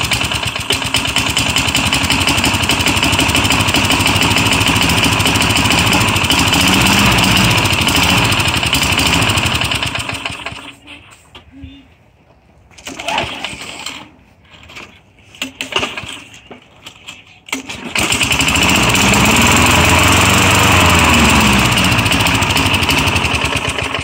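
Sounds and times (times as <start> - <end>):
recoil starter pulls: 0.0 - 10.9, 12.7 - 24.0
lawn mower engine running: 0.0 - 11.0, 12.8 - 24.0.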